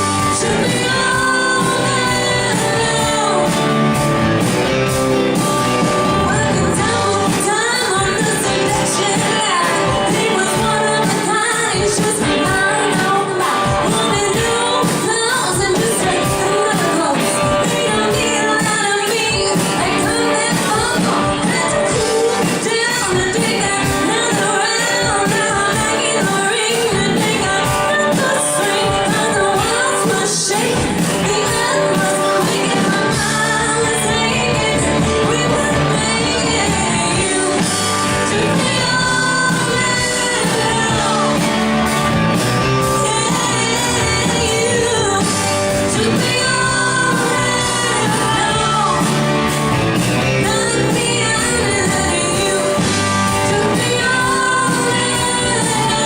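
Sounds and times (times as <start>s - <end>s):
person singing: 0.0s - 4.2s, 5.8s - 56.0s
live band playing pop-rock: 0.0s - 56.0s.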